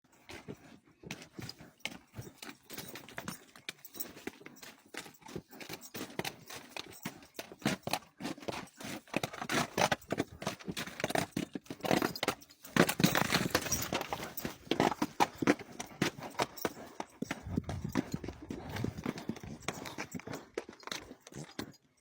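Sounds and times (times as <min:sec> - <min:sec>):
horse hooves clip-clopping: 0:00.1 - 0:22.0.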